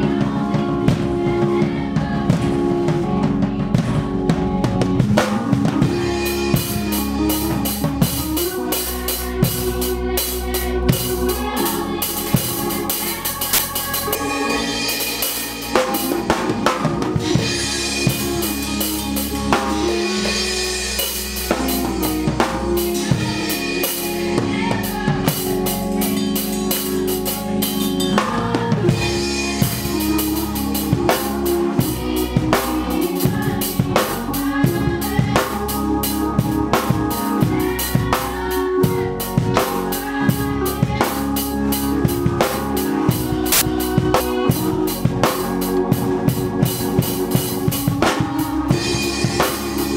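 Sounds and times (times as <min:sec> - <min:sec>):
band instruments holding chords: 0:00.0 - 0:49.9
drum kit playing: 0:00.0 - 0:49.9.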